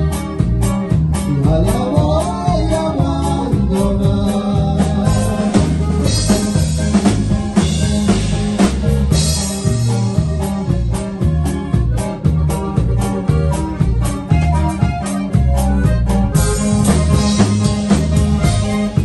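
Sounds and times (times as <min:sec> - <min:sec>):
band playing: 0:00.0 - 0:19.0
drum kit beat: 0:00.0 - 0:19.0.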